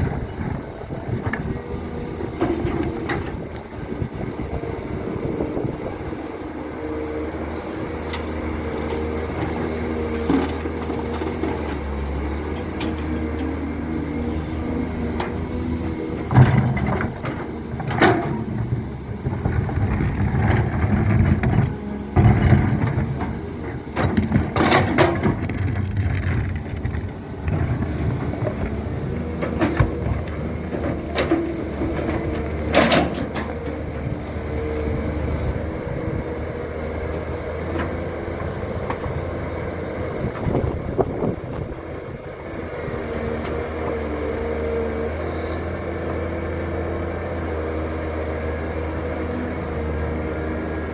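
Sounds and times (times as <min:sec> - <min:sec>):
diesel engine running: 0:00.0 - 0:50.9
excavator clanks and knocks: 0:00.0 - 0:50.9.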